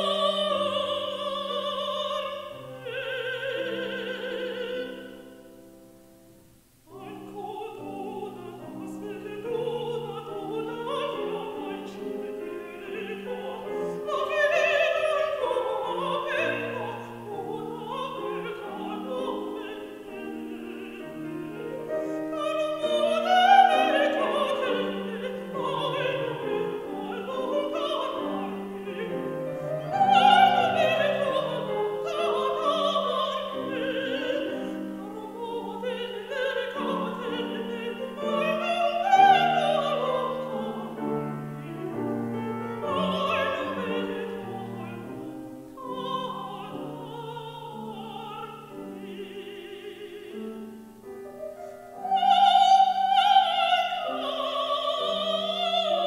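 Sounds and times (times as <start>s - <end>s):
woman singing operatically: 0.0s - 5.6s, 6.9s - 50.8s, 52.0s - 56.0s
grand piano accompaniment: 0.0s - 56.0s.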